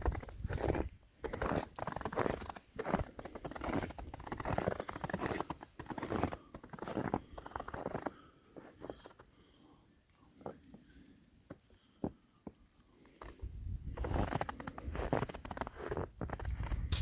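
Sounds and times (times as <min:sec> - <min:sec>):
footsteps crunching through snow: 0:00.0 - 0:09.2, 0:12.4 - 0:17.0.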